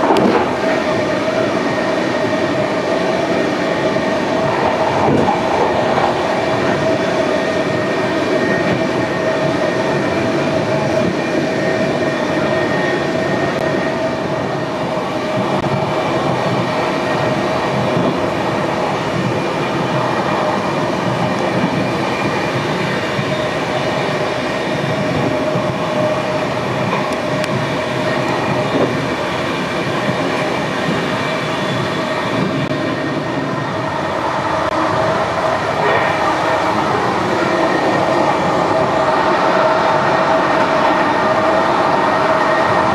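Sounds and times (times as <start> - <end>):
steady train whine: 0.0 - 42.9
train rolling rumble: 0.0 - 42.9.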